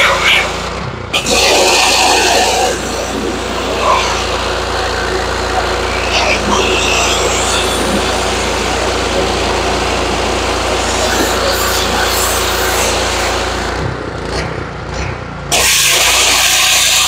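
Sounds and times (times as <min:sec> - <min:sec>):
pressure washer engine running: 0:00.0 - 0:17.0
high-pressure water spray hissing: 0:01.2 - 0:13.6, 0:15.5 - 0:17.0.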